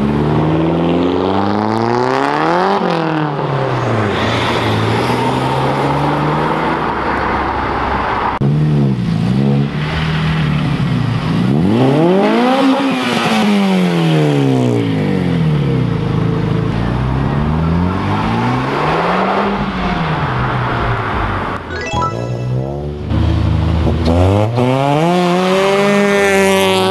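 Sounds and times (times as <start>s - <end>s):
car engines revving: 0.0s - 21.7s, 22.6s - 26.9s.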